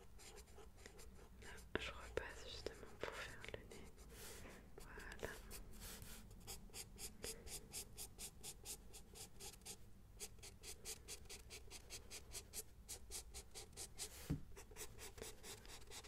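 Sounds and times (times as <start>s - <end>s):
pencil sketching on paper: 0.0s - 1.3s, 3.8s - 16.0s.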